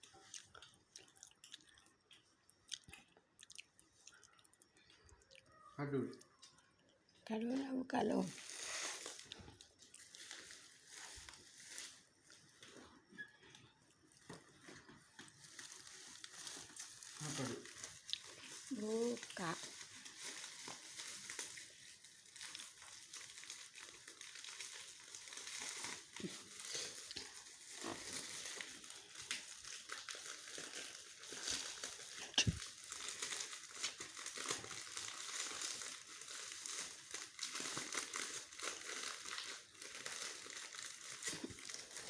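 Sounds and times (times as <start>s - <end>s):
gift wrapping crinkling: 7.4s - 42.0s.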